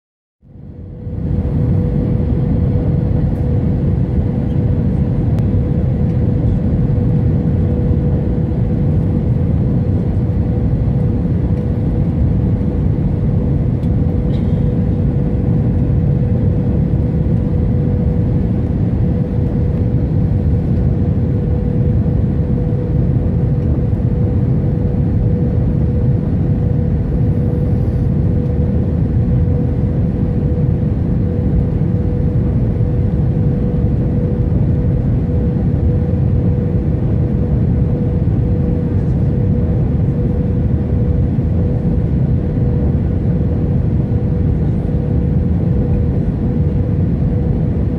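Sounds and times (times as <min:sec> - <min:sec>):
jet engine cabin rumble: 0:00.4 - 0:47.9.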